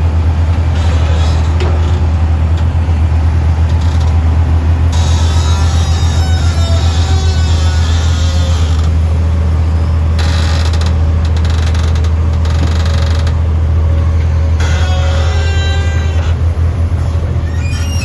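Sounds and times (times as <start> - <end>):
excavator diesel engine running: 0.0 - 18.0
metallic rattling and creaking: 0.4 - 18.0.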